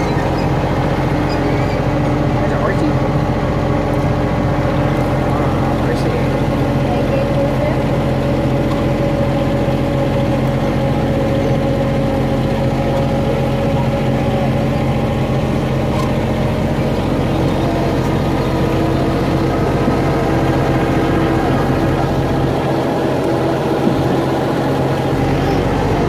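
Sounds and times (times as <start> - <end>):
tractor engine droning: 0.0 - 26.0.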